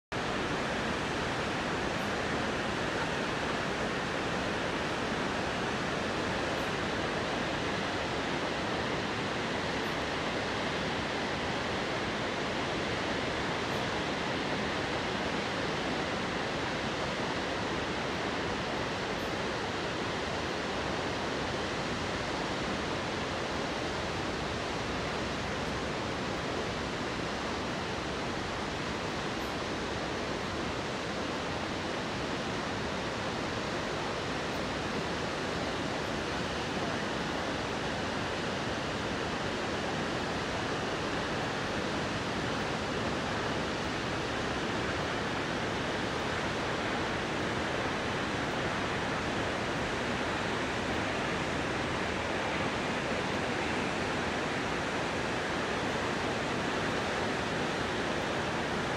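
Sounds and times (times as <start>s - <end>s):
river rapids rushing: 0.2s - 58.9s.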